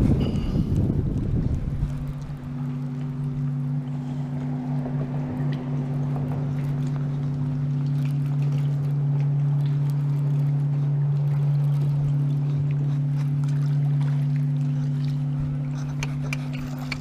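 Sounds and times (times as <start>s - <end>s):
electric boat motor humming: 0.0s - 17.0s.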